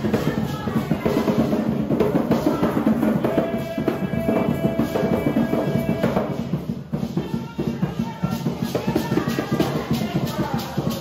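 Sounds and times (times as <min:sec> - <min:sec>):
hand drums fast rhythm: 0:00.0 - 0:11.0.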